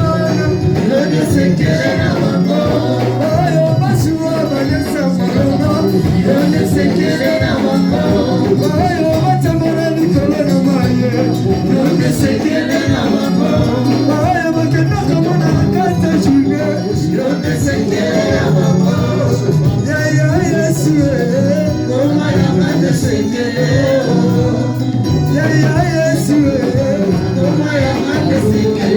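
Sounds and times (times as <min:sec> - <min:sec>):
band with repeating bass line: 0:00.0 - 0:28.9
people singing: 0:00.0 - 0:28.9.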